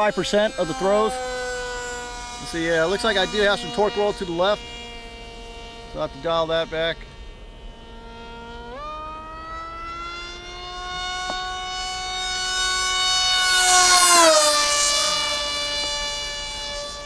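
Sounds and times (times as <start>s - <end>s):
model plane electric motor whining: 0.0s - 17.0s.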